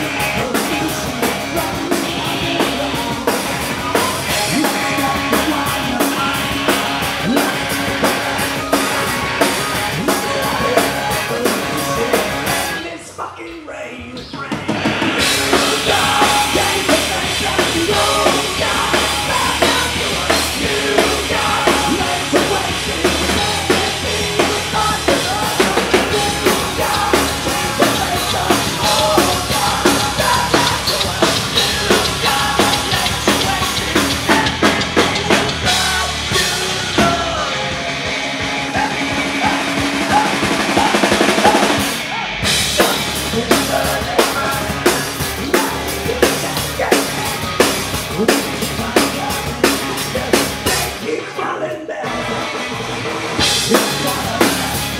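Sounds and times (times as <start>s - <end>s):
drum kit beat: 0.0s - 12.8s, 14.2s - 51.0s, 52.1s - 54.9s
electric guitar: 0.0s - 13.0s, 14.5s - 54.9s
rock band playing: 0.0s - 13.3s, 14.0s - 54.9s
person singing: 0.0s - 52.6s, 53.4s - 54.9s.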